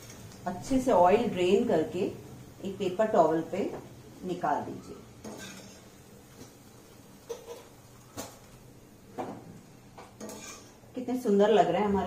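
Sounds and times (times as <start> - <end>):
frying oil sizzling: 0.0 - 12.0.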